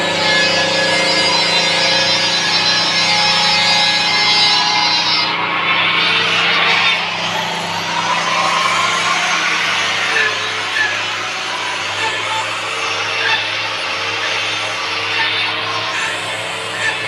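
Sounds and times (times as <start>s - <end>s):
power tool cutting wood: 0.0s - 17.0s.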